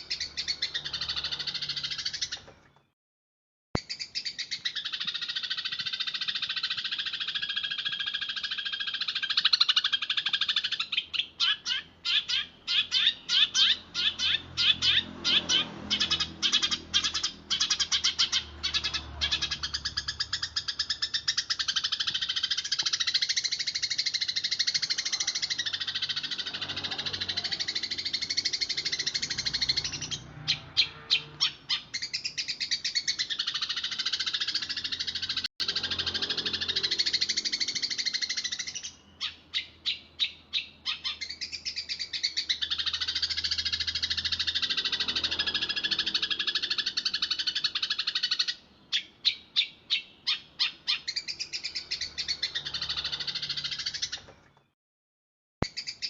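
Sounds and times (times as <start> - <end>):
sparrow chirping: 0.0 - 2.9, 3.8 - 54.7, 55.6 - 56.0.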